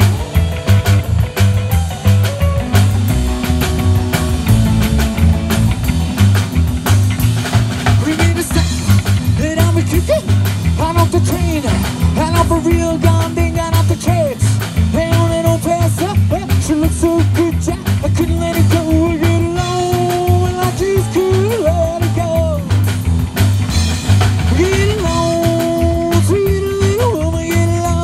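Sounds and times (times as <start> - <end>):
drums: 0.0 - 28.0
electric guitar lead: 0.0 - 28.0
slapped upright bass: 0.0 - 28.0.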